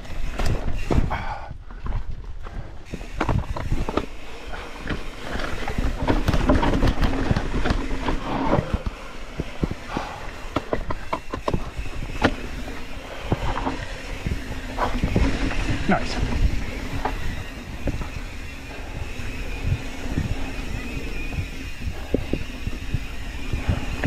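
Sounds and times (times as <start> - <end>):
bike rattling and knocking: 0.0 - 24.0
tyres rolling on dirt: 1.7 - 24.0.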